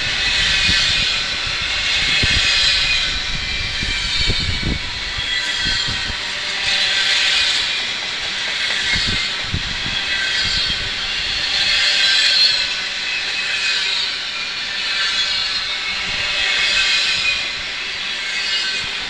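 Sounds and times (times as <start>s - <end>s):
high metallic squeal: 0.0s - 19.0s
train wheels on rail: 0.0s - 19.0s.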